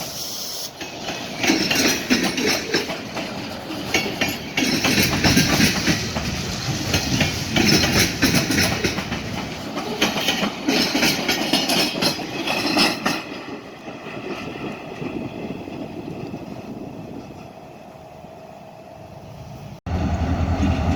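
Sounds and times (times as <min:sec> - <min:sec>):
train rolling past: 0:00.0 - 0:20.9
steel wheels clattering over rail joints: 0:00.7 - 0:17.7.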